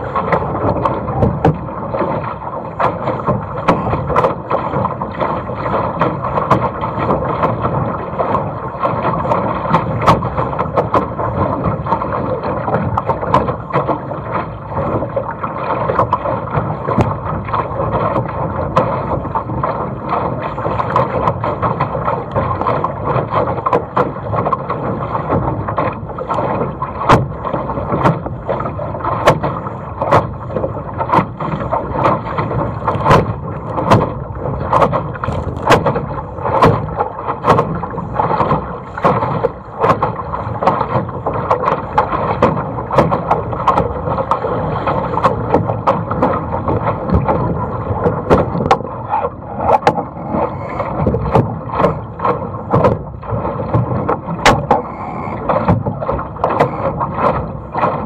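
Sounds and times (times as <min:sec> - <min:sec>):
water and wind rushing: 0:00.0 - 0:58.0
waves slapping against hull: 0:00.0 - 0:58.0.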